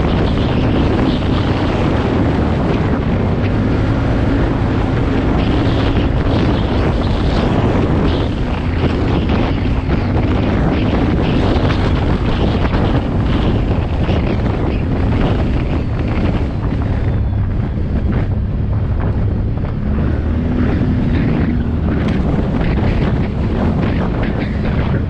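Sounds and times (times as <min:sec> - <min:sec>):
atv engine running: 0:00.0 - 0:25.0
wind buffeting microphone: 0:00.0 - 0:25.0.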